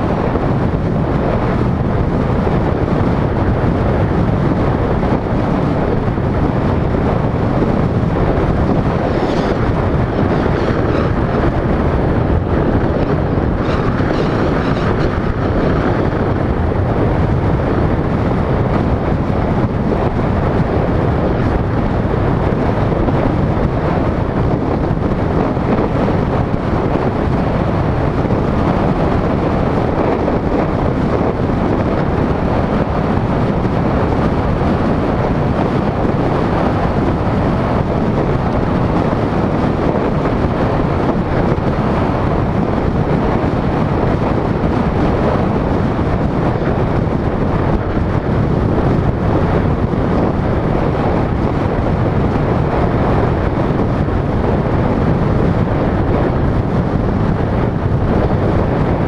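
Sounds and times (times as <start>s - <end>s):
vehicle road noise: 0.0s - 59.0s
wind buffeting microphone: 0.0s - 59.0s.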